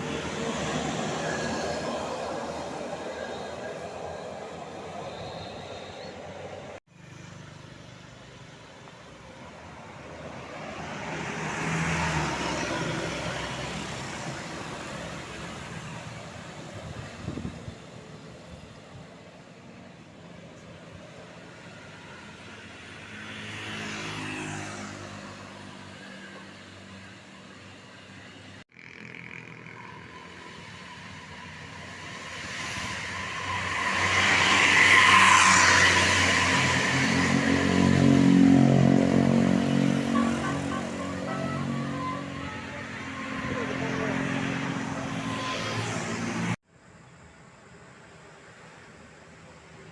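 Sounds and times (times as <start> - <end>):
vehicle passing by: 0.0 - 5.9, 6.7 - 18.7, 21.3 - 46.6
bus engine and tyre noise: 0.0 - 49.9.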